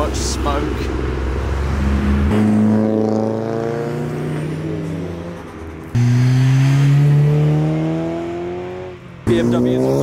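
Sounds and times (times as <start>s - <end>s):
car engine accelerating: 0.0s - 10.0s
louder car accelerating: 0.7s - 10.0s.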